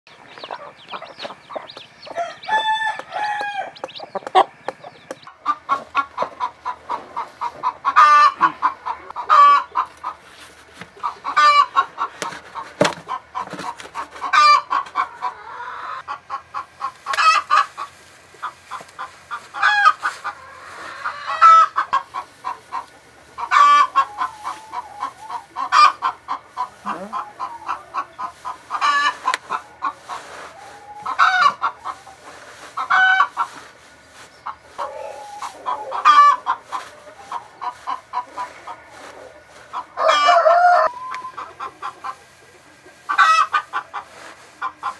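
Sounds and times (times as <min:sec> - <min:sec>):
chickens clucking: 0:00.1 - 0:44.9
chicks peeping: 0:00.1 - 0:44.9.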